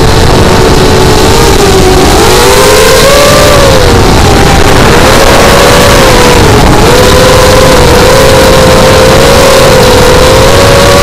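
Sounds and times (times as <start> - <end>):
drone motors whining: 0.0 - 11.0
wind rushing on microphone: 0.0 - 11.0.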